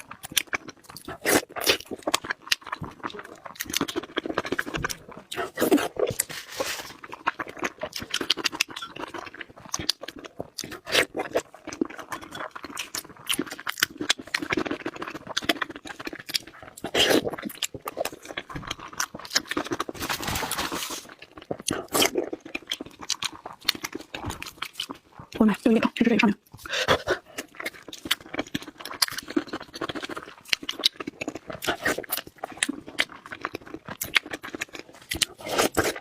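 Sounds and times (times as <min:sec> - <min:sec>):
person chewing crunchy food: 0:00.0 - 0:36.0.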